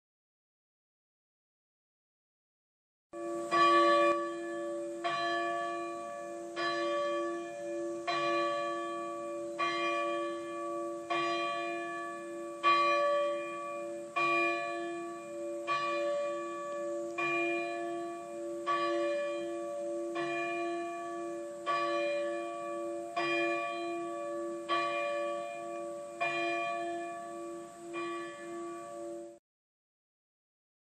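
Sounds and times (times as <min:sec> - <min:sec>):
church bell tolling: 0:03.2 - 0:29.4.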